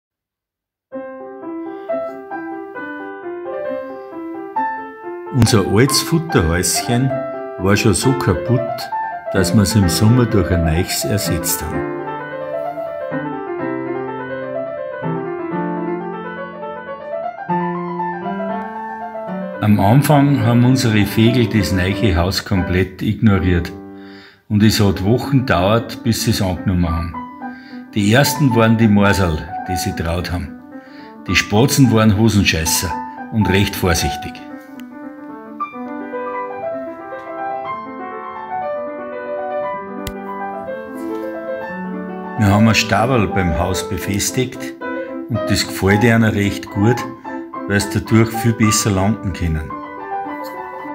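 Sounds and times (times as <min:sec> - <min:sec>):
slow piano music: 0:00.9 - 0:50.9.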